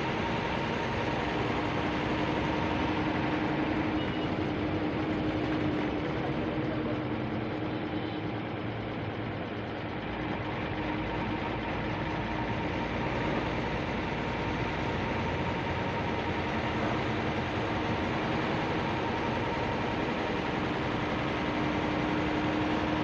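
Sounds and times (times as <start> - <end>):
bus engine drone: 0.0 - 23.0
road and wind noise: 0.0 - 23.0.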